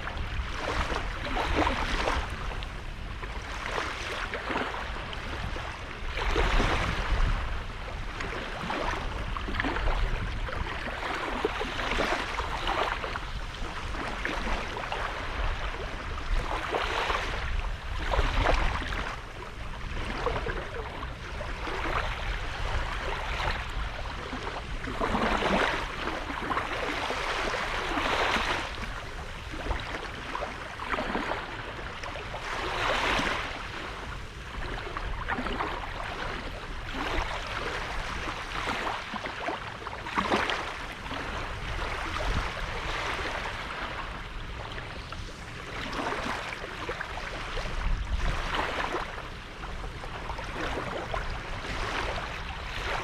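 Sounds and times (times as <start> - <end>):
constant low rumble: 0.0 - 53.0
waves washing onto a beach: 0.0 - 53.0.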